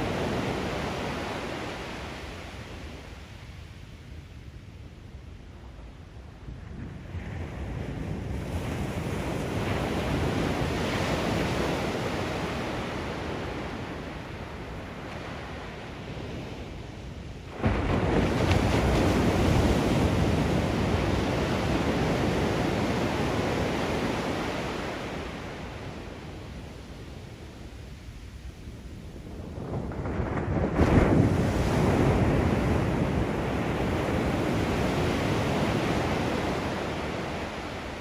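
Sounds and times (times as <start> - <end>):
ocean surf breaking on beach: 0.0 - 4.9, 5.5 - 38.0.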